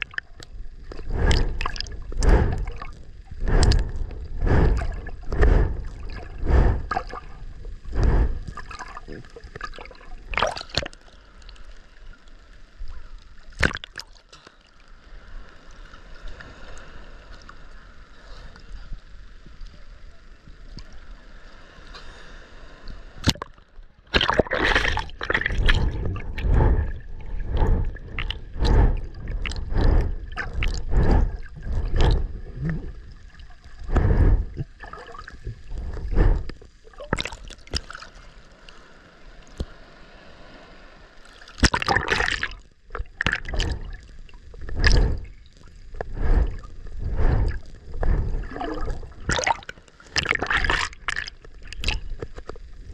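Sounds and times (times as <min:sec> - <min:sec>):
water sloshing and gurgling: 0:00.0 - 0:12.1, 0:12.7 - 0:17.6, 0:23.2 - 0:52.9
muffled rushes of water: 0:00.0 - 0:52.9.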